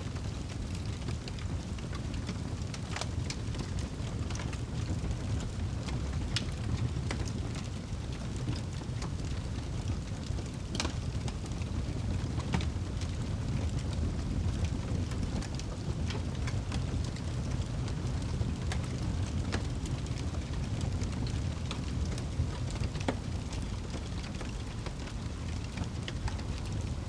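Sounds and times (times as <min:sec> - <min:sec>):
burning wood crackling and popping: 0:00.0 - 0:27.0
low rumble of flames: 0:00.0 - 0:27.0.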